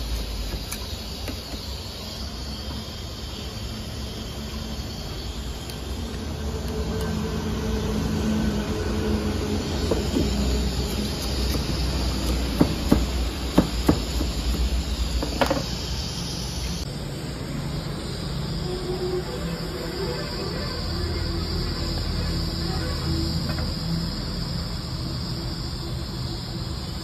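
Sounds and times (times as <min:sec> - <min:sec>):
gas burner flame hissing: 0:00.0 - 0:27.0.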